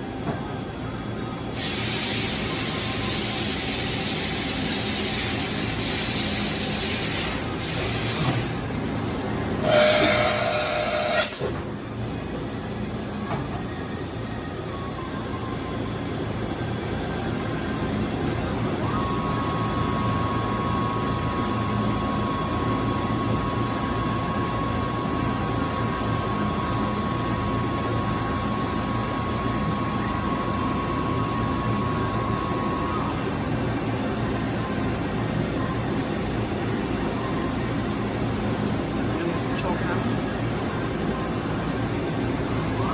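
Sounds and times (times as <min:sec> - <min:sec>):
high machine whine: 0:00.0 - 0:42.9
machine mechanical hum: 0:00.0 - 0:42.9.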